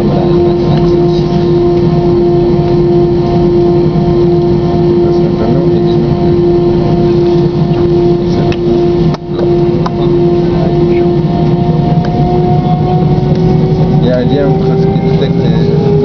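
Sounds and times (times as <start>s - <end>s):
jet engine cabin rumble: 0.0s - 16.0s
steady hum: 0.0s - 16.0s.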